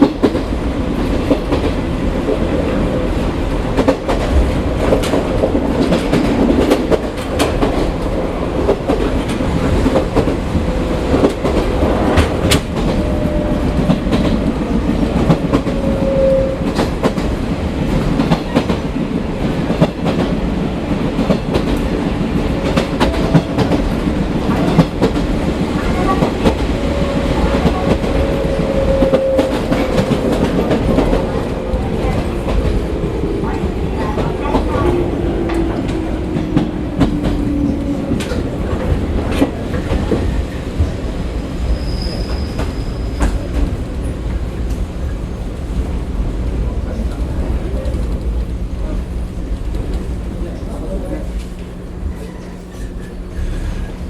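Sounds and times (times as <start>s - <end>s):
train wheels rumbling on rails: 0.0s - 54.0s
faint train whine: 7.0s - 54.0s.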